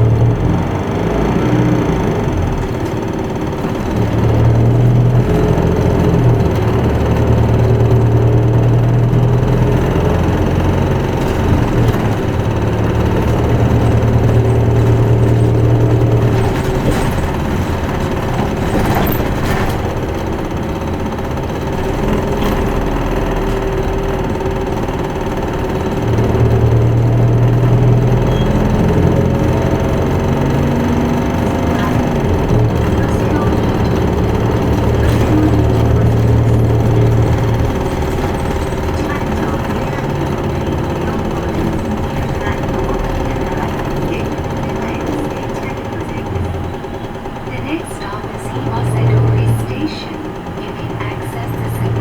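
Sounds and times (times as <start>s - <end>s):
bus diesel engine: 0.0s - 52.0s
light rattles: 1.7s - 47.7s.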